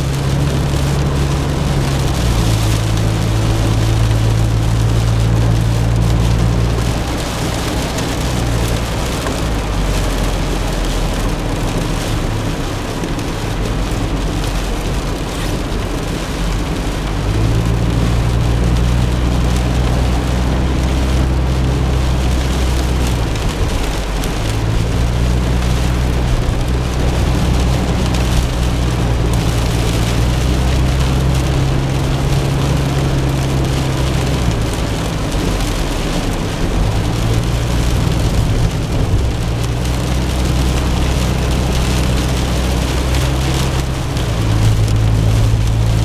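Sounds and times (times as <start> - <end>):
rain and tyre spray hiss: 0.0 - 46.0.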